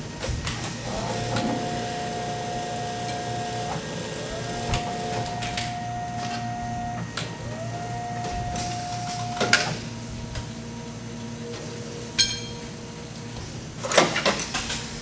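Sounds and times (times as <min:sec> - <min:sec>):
machine hum: 0:00.0 - 0:13.8.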